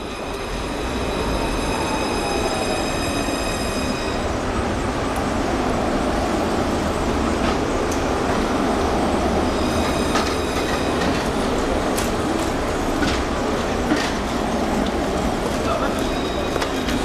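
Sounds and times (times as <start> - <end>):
tram rumbling on tracks: 0.0 - 17.0.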